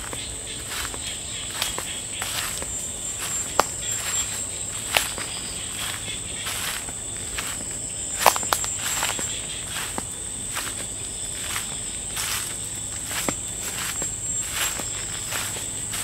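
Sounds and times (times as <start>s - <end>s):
footsteps on dry leaves: 0.0s - 16.0s
insects droning: 0.0s - 16.0s.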